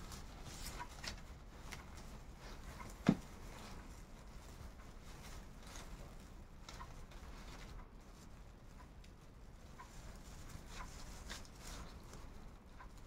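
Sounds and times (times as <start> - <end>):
paper yarn rustling and crackling: 0.0 - 8.3, 9.8 - 13.0.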